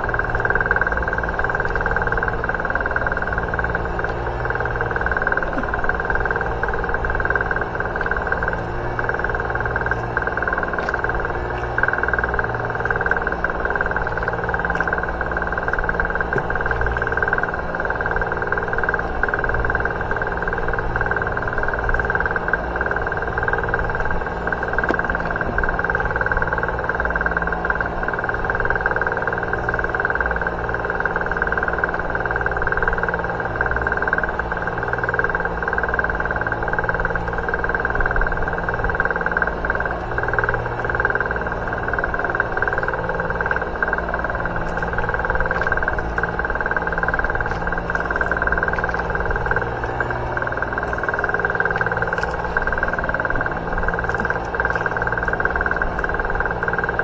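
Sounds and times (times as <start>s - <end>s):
engine running low drone: 0.0s - 57.0s
high engine whine: 0.0s - 57.0s.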